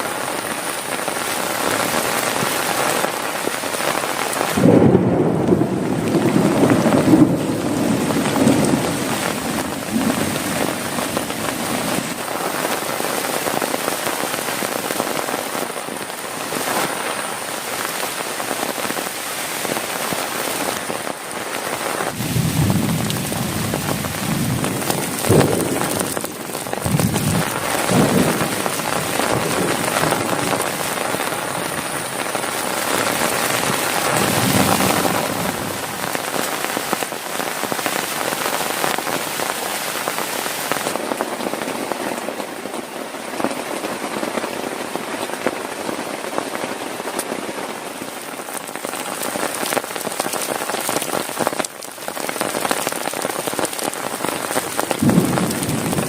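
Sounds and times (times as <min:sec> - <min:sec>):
rain pattering on plastic tarp: 0:00.0 - 0:56.0.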